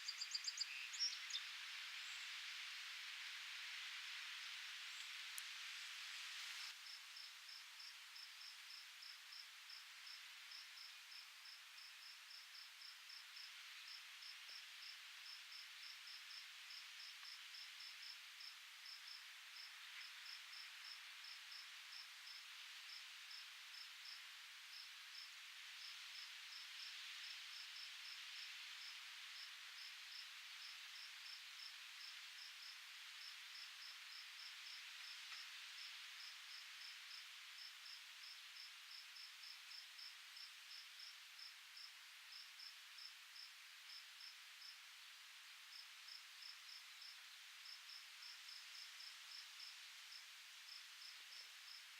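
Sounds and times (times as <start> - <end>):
soft wind hiss: 0.0 - 51.9.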